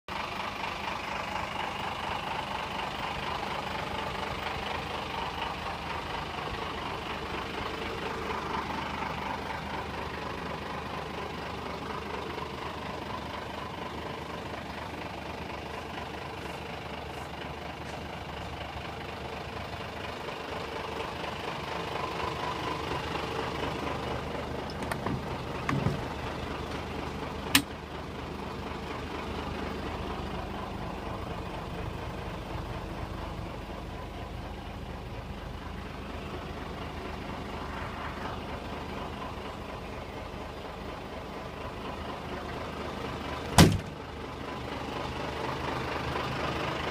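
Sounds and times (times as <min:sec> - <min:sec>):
truck diesel engine idling: 0:00.1 - 0:46.9.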